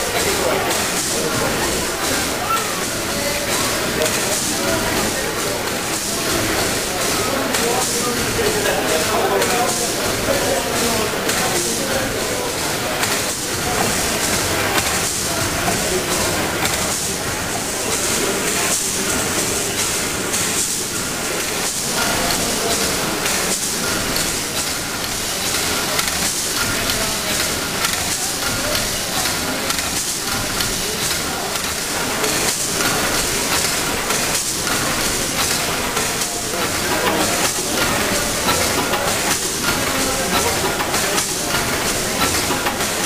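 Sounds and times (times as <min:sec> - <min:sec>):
steam engine running slowly: 0:00.0 - 0:43.0
steam hissing: 0:00.0 - 0:43.0
valve gear clatter: 0:00.0 - 0:43.0.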